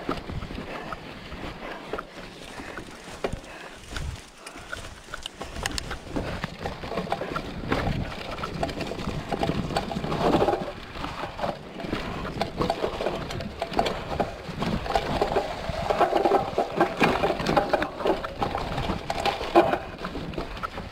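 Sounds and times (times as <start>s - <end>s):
bike rattling over bumps: 0.0s - 20.9s
tyres rolling over leaves and stones: 0.0s - 20.9s.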